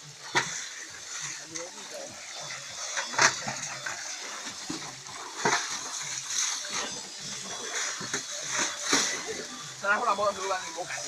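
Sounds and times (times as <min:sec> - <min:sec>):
muddy water splashing from a pail: 0:00.0 - 0:11.0.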